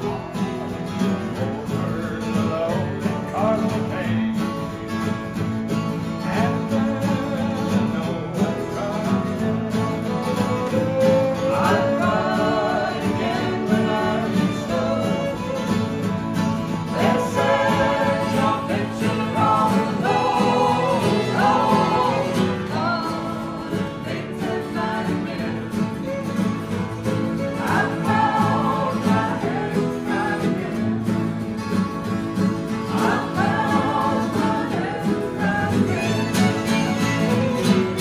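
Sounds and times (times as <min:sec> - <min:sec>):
acoustic guitars and mandolin strumming: 0:00.0 - 0:38.0.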